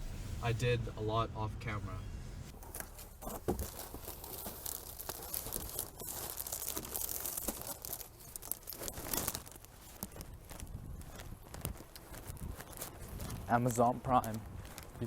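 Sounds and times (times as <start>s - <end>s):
plastic wrapping crinkling: 2.5s - 15.0s.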